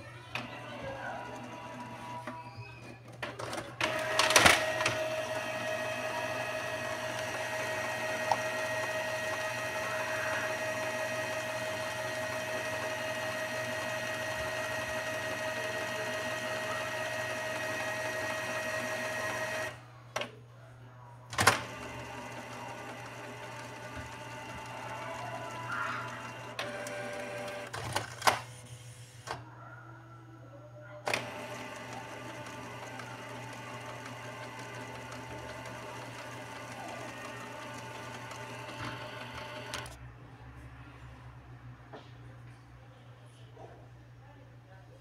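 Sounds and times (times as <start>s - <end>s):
printer mechanism whirring: 0.3s - 20.4s, 21.3s - 29.5s, 31.0s - 40.0s.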